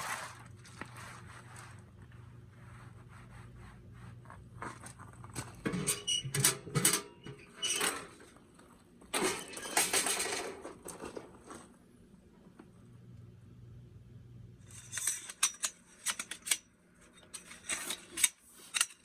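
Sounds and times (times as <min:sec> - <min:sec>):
faint steady hum: 0:00.2 - 0:19.0.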